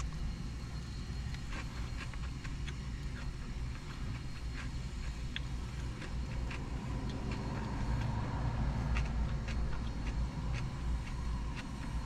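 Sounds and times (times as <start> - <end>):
steady low rumble: 0.0 - 12.0
chewing mouth clicks: 1.2 - 12.0.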